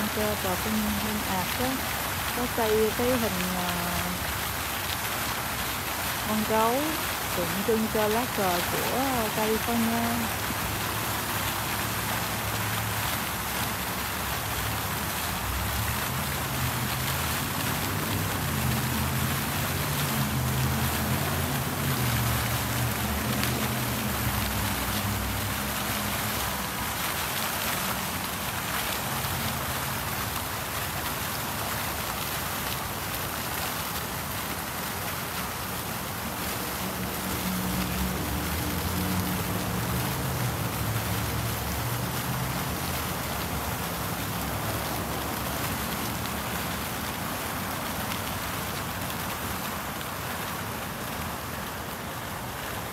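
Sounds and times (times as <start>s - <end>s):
fountain jets splashing: 0.0s - 52.9s
traffic rumble: 0.0s - 52.9s.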